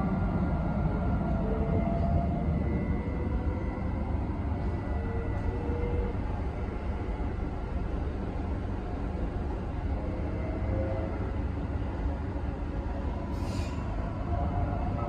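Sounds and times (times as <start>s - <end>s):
faint whining tones: 0.0s - 15.0s
train running gear rumble: 0.0s - 15.0s.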